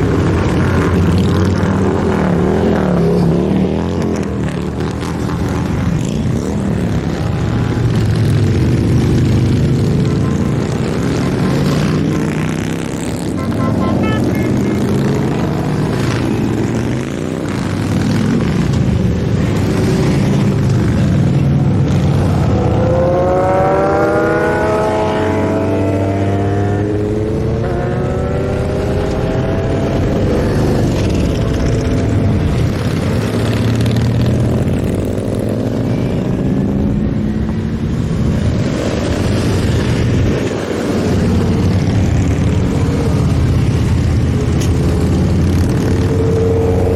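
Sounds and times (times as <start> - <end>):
motorcycles riding past: 0.0 - 46.9.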